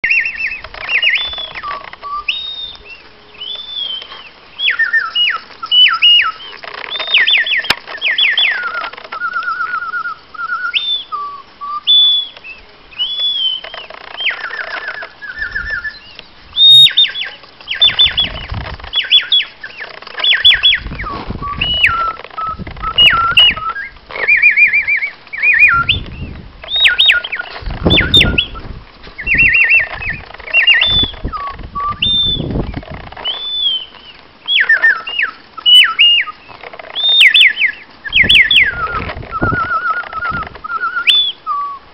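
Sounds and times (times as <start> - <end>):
mechanical bird whistling: 0.0 - 41.9.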